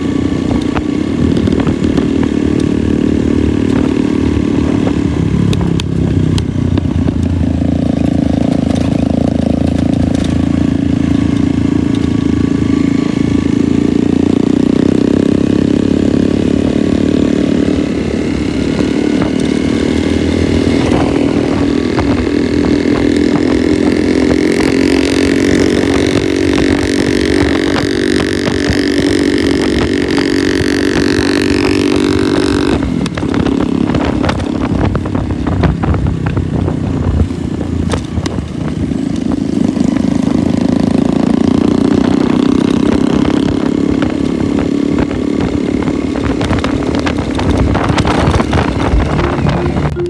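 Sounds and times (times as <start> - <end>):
motorcycle engine running: 0.0 - 50.0
road and wind noise: 0.0 - 50.0.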